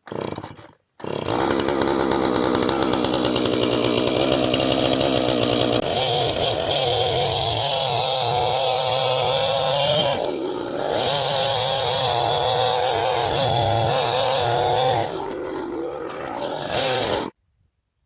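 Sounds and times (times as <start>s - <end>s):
chainsaw engine running: 0.1s - 17.4s.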